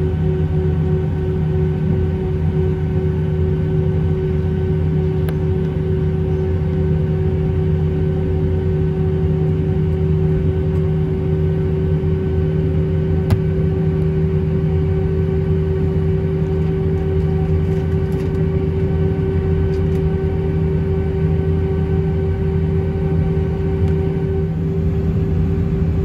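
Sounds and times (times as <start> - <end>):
airplane engines droning: 0.0 - 26.0.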